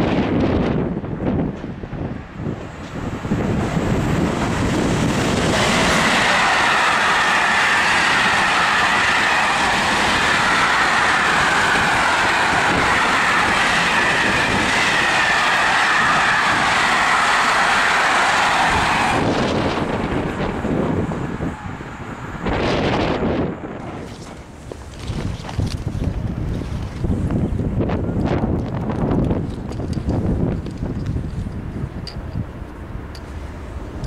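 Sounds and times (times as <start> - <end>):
freight train wheels rolling: 0.0 - 34.0.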